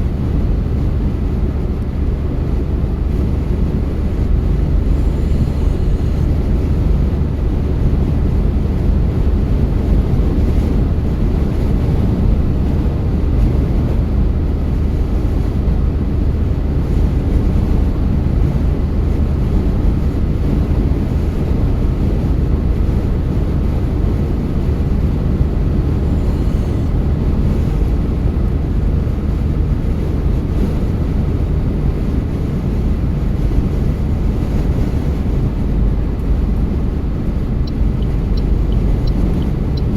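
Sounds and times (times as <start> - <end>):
car driving: 0.0 - 39.9.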